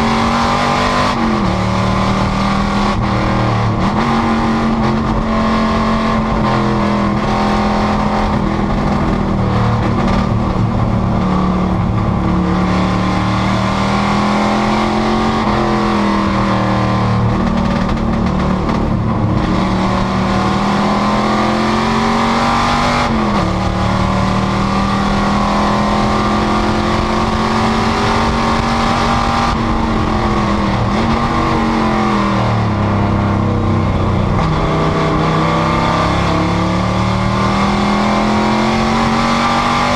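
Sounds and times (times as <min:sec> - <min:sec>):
race car engine revving high: 0:00.0 - 0:39.9.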